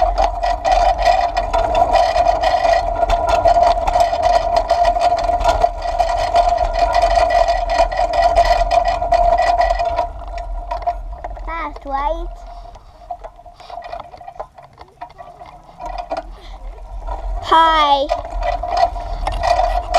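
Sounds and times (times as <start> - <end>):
bicycle rattles and clicks: 0.0 - 19.9
bicycle wheels whirring: 0.0 - 19.9.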